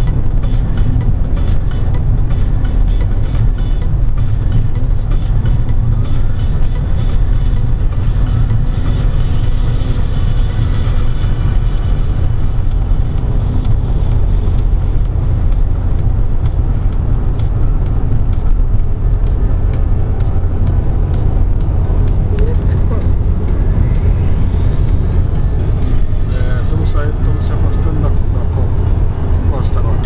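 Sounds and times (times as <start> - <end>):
road and engine noise in car: 0.0 - 30.0.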